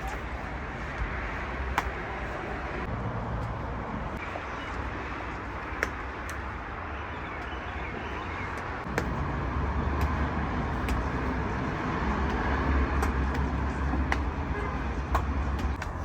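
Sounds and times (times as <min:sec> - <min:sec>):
low rumble like traffic: 0:00.0 - 0:16.0.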